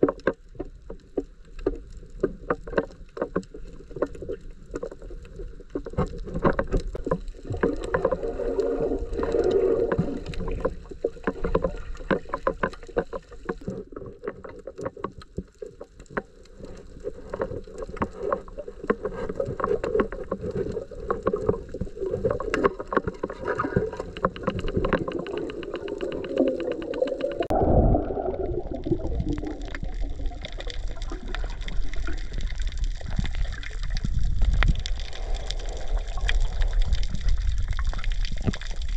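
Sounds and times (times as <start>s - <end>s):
fast crackling clicks: 0.0s - 27.5s, 28.5s - 38.9s
underwater water noise: 0.0s - 38.9s.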